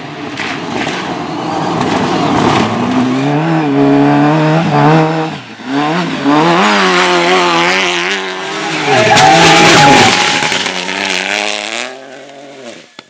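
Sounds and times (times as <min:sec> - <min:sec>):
car engine revving hard: 0:01.8 - 0:12.8.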